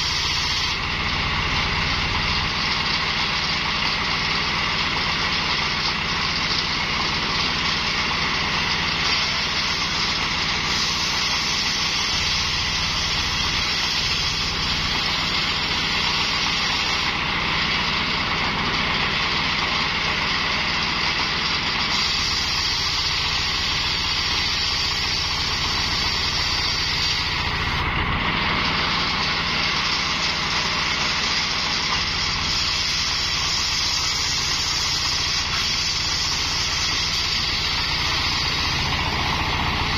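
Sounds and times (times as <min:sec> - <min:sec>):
circular saw blade cutting log: 0:00.0 - 0:39.9
stationary engine running: 0:00.0 - 0:39.9.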